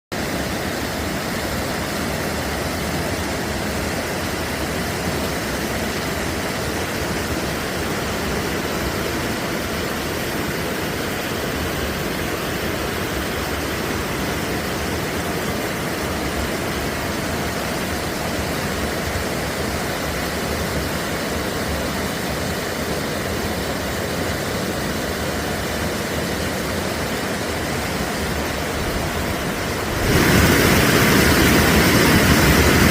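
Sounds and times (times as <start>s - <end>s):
heavy rain: 0.1s - 32.9s
running water: 0.1s - 32.9s.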